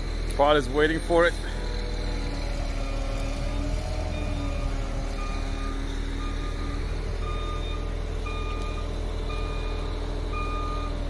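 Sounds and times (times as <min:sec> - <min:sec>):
diesel truck engines rumbling: 0:00.0 - 0:11.0
truck backup alarm beeping: 0:01.6 - 0:11.0.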